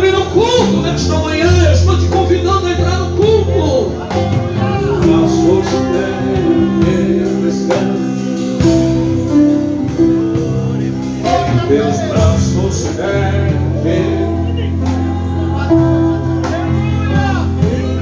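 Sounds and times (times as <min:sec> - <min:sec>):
person singing over instruments: 0:03.4 - 0:18.0.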